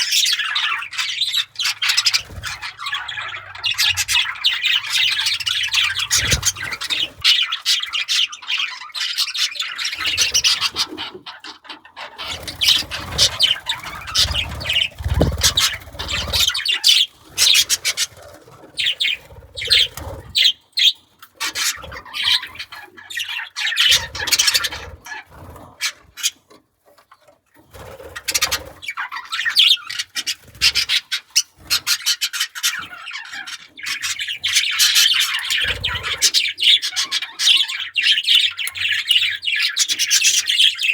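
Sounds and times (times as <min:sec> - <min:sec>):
budgerigars chirping: 0:00.0 - 0:26.4, 0:28.0 - 0:40.9.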